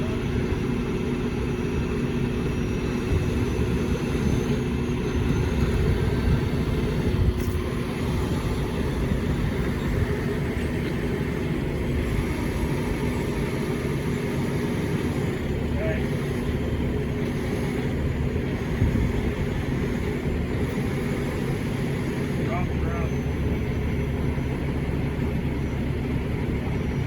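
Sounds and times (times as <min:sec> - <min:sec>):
diesel truck engines rumbling: 0:00.0 - 0:27.0.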